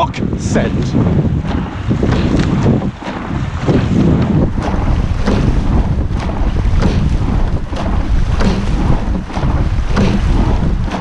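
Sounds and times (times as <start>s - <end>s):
oar knocks and splashes: 0.0s - 11.0s
water rushing along hull: 0.0s - 11.0s
wind buffeting microphone: 0.0s - 11.0s.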